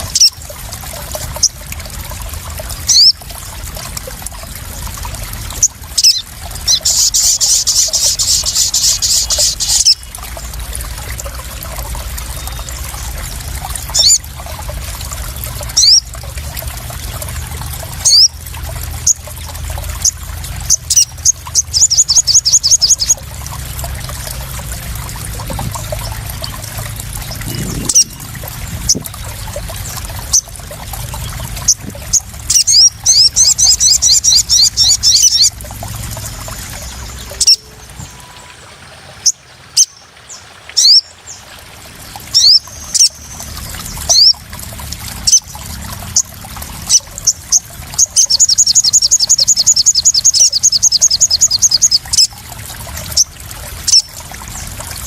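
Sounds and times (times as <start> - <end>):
trickling splashing water: 0.0 - 55.0
birds chirping and trilling: 2.9 - 3.2, 5.3 - 14.4, 15.2 - 16.1, 16.8 - 24.6, 25.3 - 44.4, 45.2 - 52.4, 53.2 - 54.8.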